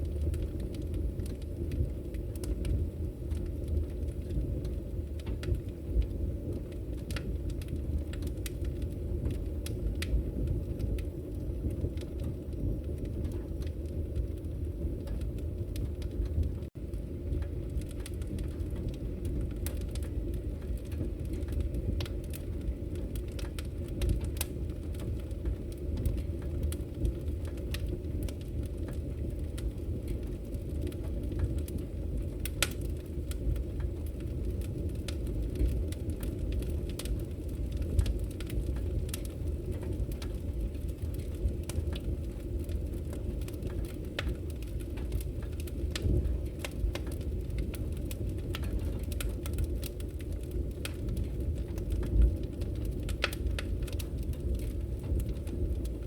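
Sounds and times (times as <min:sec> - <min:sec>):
firewood crackling and popping: 0:00.0 - 0:56.0
rumble of flames: 0:00.0 - 0:56.0.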